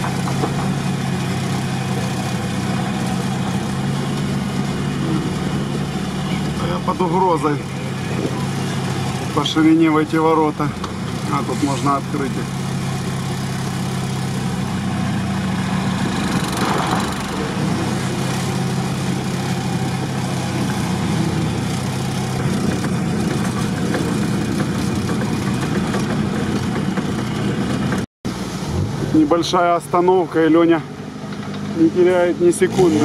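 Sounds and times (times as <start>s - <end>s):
vehicle engine running inside cab: 0.0s - 33.0s.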